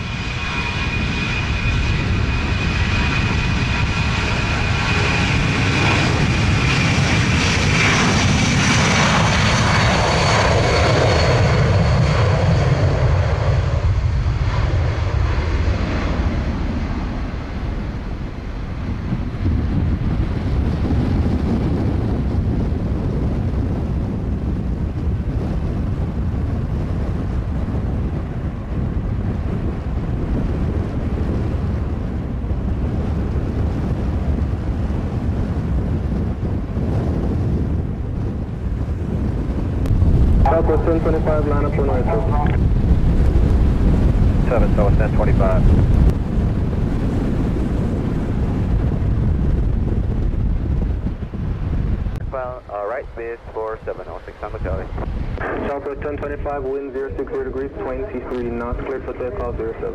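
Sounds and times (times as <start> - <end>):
jet engines rumbling: 0.0 - 59.9
wind buffeting microphone: 0.0 - 59.9.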